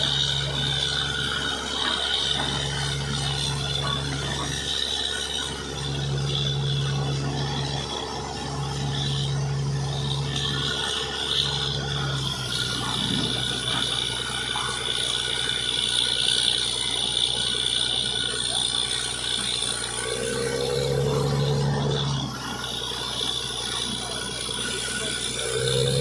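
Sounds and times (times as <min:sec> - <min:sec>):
drilling rig high whine: 0:00.0 - 0:26.0
low engine hum: 0:00.0 - 0:26.0.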